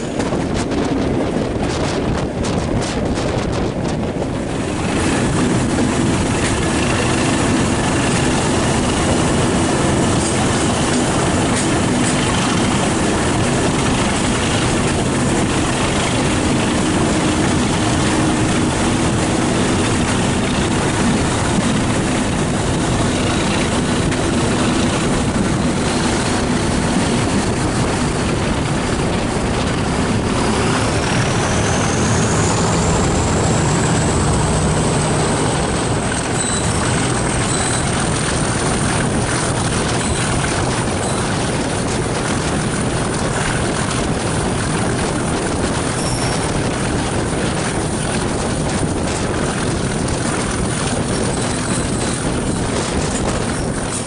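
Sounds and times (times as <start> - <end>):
diesel locomotive engine: 0.0 - 54.0
train running noise: 0.0 - 54.0.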